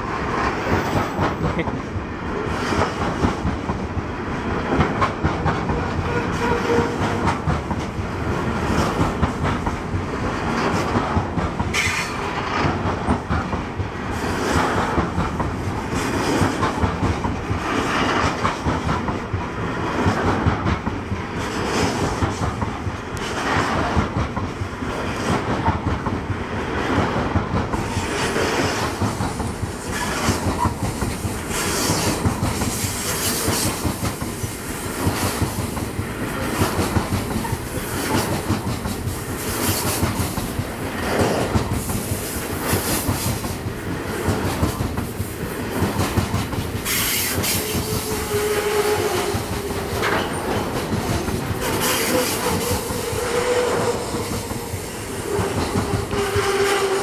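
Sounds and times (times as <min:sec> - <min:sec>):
train wagons rumbling past: 0:00.0 - 0:57.0
wheels clacking over rail joints: 0:00.0 - 0:57.0.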